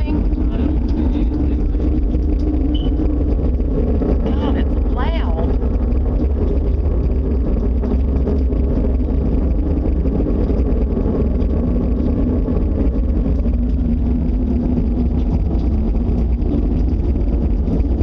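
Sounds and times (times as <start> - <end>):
faint hum: 0.0 - 18.0
loud low rumbling roar: 0.0 - 18.0.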